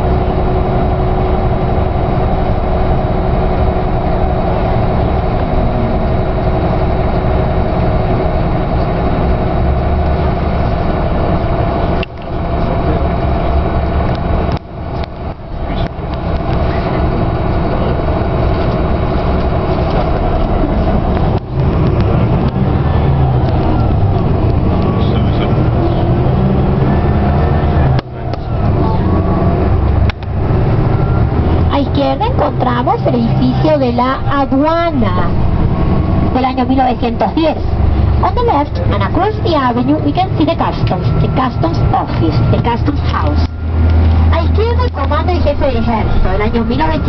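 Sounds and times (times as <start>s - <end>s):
bus engine and road noise: 0.0s - 47.0s
constant hum: 0.0s - 47.0s.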